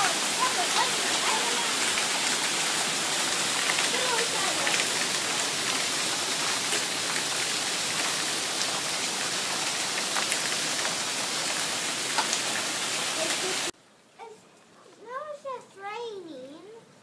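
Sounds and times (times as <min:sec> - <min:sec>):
heavy rain: 0:00.0 - 0:14.3.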